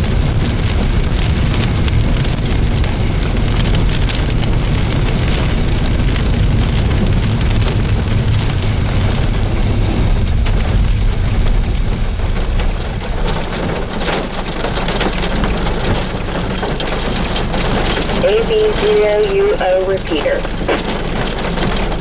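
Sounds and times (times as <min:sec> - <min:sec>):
rain ticks: 0:00.0 - 0:22.0
wind buffeting microphone: 0:00.0 - 0:22.0.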